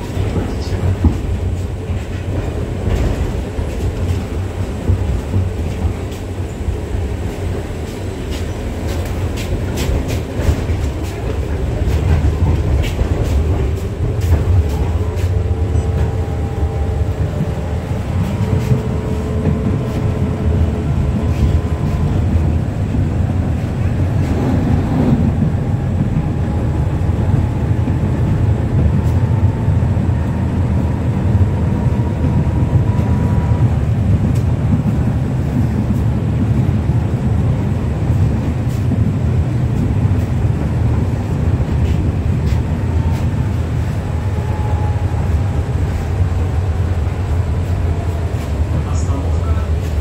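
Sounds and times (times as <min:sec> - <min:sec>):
tram passing: 0:00.0 - 0:50.0
tram wheels rumbling: 0:00.0 - 0:50.0.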